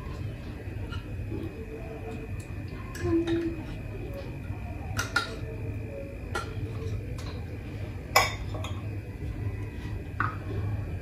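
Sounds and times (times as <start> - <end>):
dishes and utensils clinking: 0.0 - 5.6, 6.2 - 9.0, 10.1 - 10.7
low steady hum: 0.0 - 11.0.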